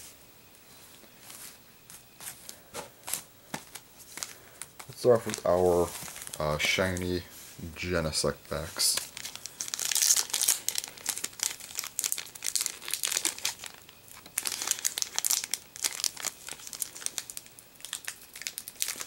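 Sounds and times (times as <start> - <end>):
foil wrapper crinkling: 3.1 - 19.0.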